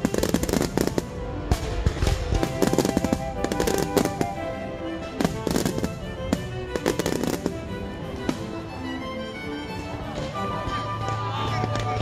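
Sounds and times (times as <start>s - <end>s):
fireworks bangs and crackling: 0.0s - 8.6s, 9.8s - 12.0s
music with held notes: 0.0s - 12.0s.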